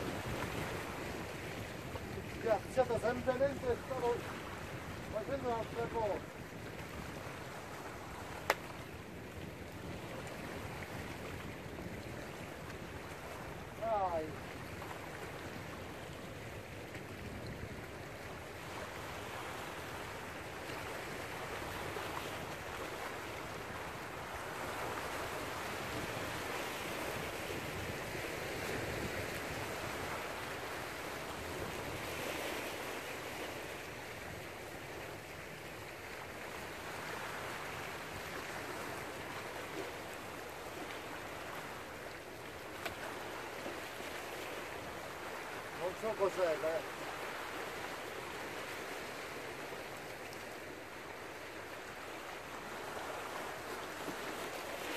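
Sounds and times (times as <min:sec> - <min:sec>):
sea waves washing over rocks: 0:00.0 - 0:54.9.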